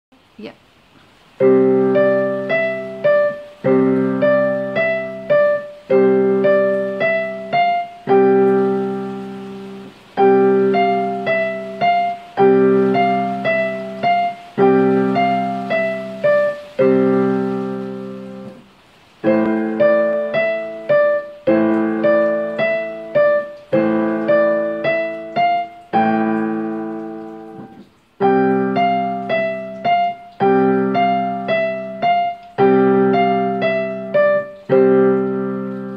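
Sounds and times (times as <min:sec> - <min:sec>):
slow gentle piano piece: 0:00.3 - 0:35.9.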